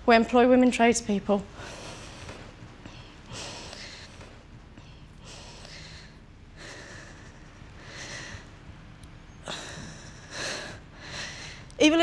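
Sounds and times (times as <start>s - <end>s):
woman breathing nervously: 1.5s - 11.8s.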